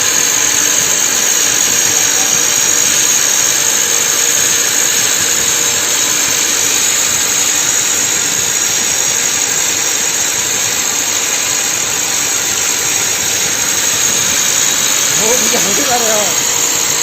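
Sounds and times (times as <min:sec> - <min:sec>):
machine running with hissing edge: 0:00.0 - 0:17.0.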